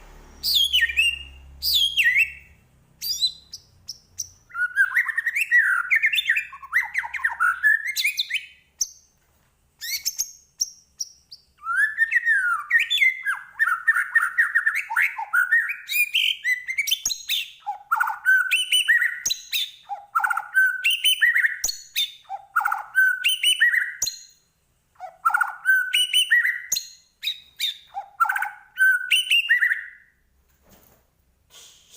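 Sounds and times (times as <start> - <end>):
bird singing whistled phrases: 0.3 - 8.6, 9.8 - 10.3, 11.0 - 24.3, 25.0 - 30.2.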